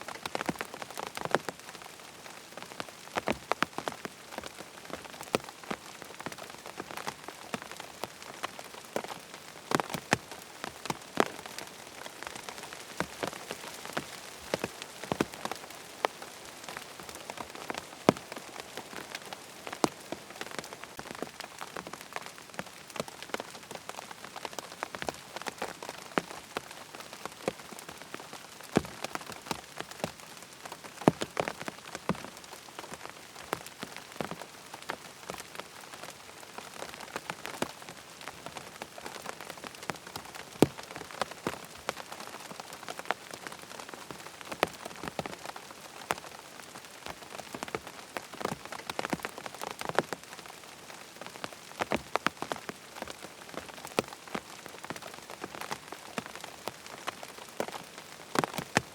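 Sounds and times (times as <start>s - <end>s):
rain pattering on a tent: 0.0s - 58.9s.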